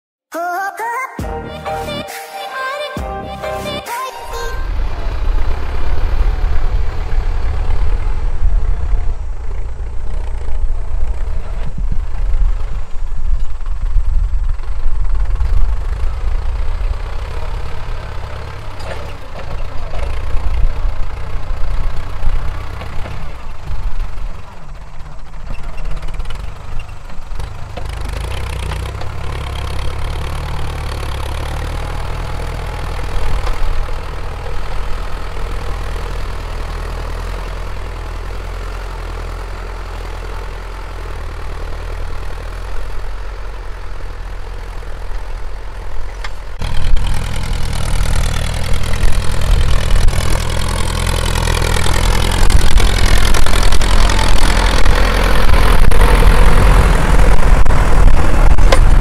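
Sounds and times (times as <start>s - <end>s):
tractor diesel engine under load: 3.0s - 59.0s.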